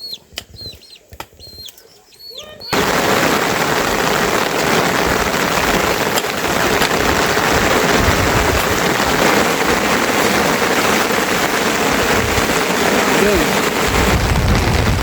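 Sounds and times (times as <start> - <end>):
steady rain hiss: 2.7 - 15.0.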